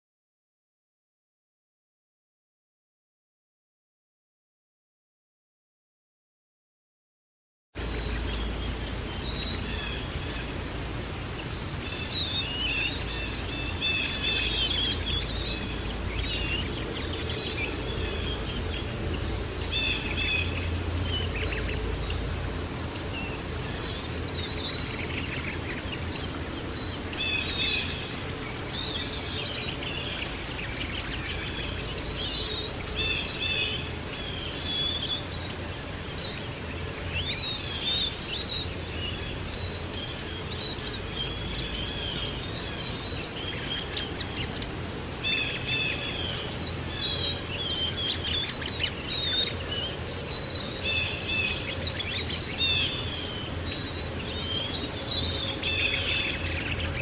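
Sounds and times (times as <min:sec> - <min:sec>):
background noise wash: 0:07.8 - 0:57.0
small birds chirping: 0:07.8 - 0:57.0.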